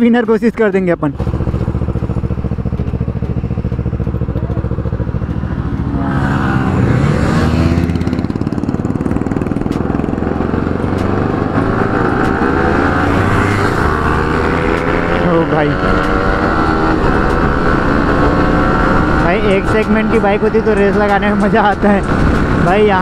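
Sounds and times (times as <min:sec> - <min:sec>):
second motorcycle engine: 0:00.5 - 0:23.0
motorcycle engine revving: 0:00.9 - 0:23.0.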